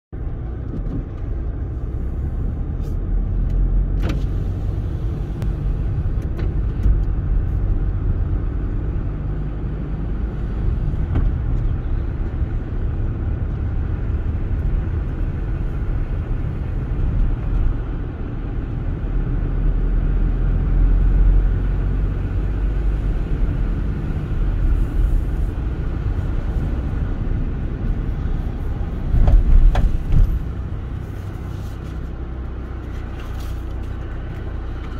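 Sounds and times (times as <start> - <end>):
car engine and tyre rumble: 0.1 - 34.9.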